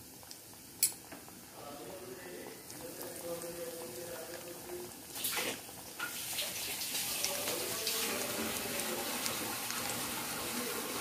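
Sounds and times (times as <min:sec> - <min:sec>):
chicken deep-frying with crackles: 0:00.0 - 0:11.0.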